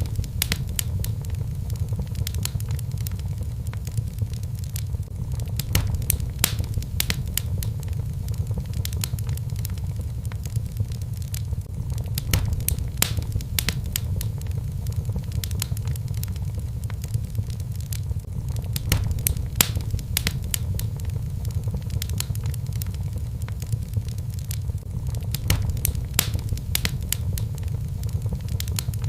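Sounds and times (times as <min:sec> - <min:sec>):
fire crackling in fireplace: 0:00.0 - 0:29.0
low rumble: 0:00.0 - 0:29.0.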